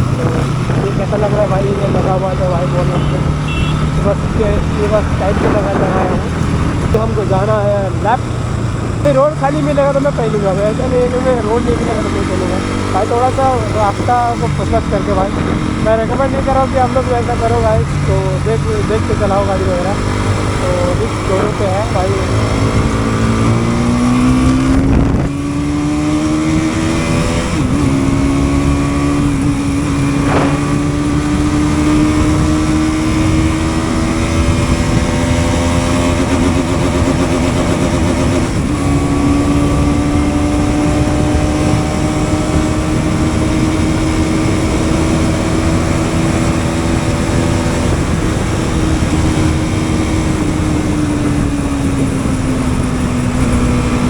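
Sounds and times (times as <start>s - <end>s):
wind rush: 0.0s - 9.1s, 10.2s - 54.0s
motorcycle engine at full throttle: 0.0s - 54.0s.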